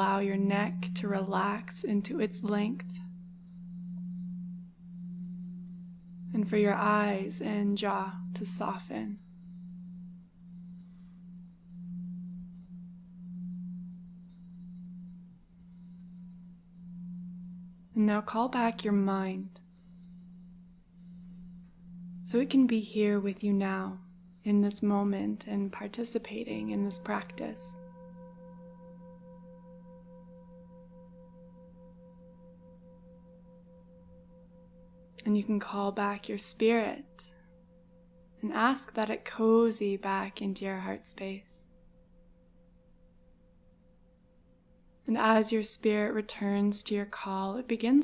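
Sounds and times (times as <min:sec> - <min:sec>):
low meditation drone: 0:00.0 - 0:45.7.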